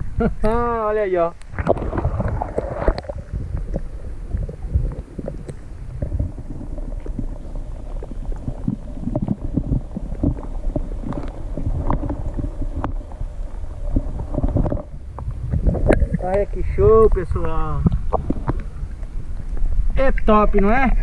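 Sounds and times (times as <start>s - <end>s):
faint steady hum: 0.0s - 21.0s
muffled underwater rumble: 0.0s - 21.0s
small underwater knocks and clicks: 1.4s - 16.5s, 17.1s - 19.7s.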